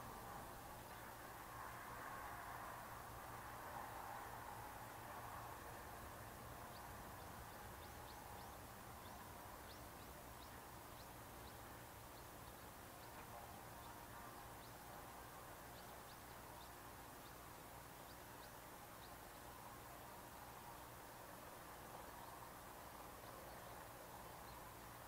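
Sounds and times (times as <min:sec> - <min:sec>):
small birds chirping: 0:00.0 - 0:02.0, 0:02.7 - 0:25.0
distant helicopter hiss and hum: 0:00.0 - 0:25.0.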